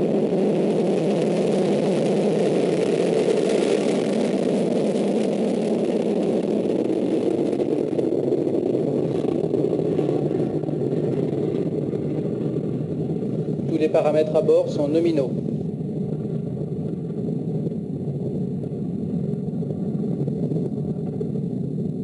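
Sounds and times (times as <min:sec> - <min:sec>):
rocket motor rushing rumble: 0:00.0 - 0:22.0.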